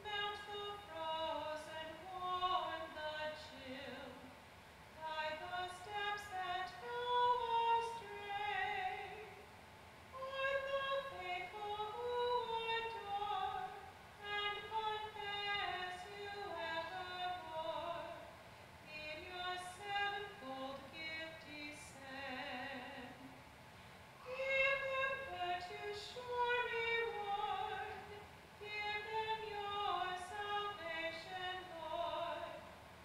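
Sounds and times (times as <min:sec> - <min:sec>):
woman singing solo with vibrato: 0:00.0 - 0:04.3, 0:05.0 - 0:09.5, 0:10.2 - 0:23.4, 0:24.2 - 0:32.7.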